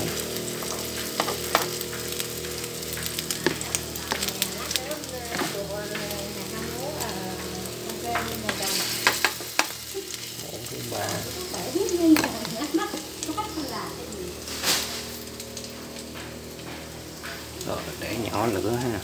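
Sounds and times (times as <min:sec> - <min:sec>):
batter deep-frying in oil: 0:00.0 - 0:19.0
spoon working in a pan: 0:00.0 - 0:19.0.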